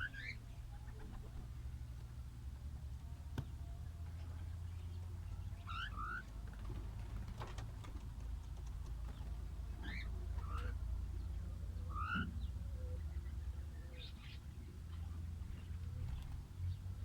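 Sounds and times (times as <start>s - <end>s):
small birds chirping: 0.0s - 2.2s, 3.2s - 17.0s.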